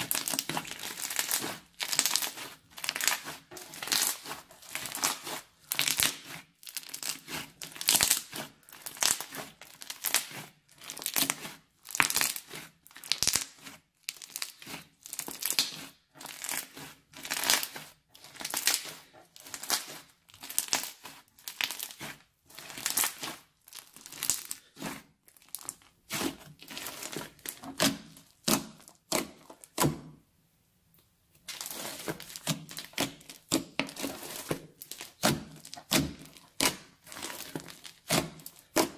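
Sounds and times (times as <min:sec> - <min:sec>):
slime squishing and crackling: 0:00.0 - 0:30.2, 0:31.3 - 0:38.9.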